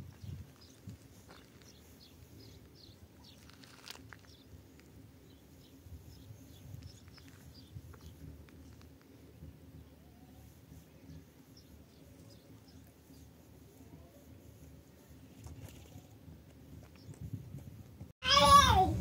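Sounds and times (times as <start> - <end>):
small birds chirping: 0.0 - 17.4.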